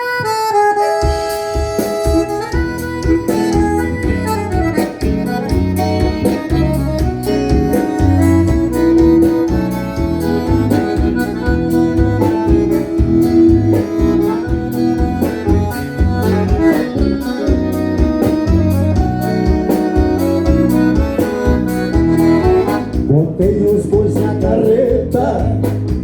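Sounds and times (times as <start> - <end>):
accordion: 0.0 - 26.0
guitar: 0.0 - 26.0
steady bass beat: 1.2 - 26.0.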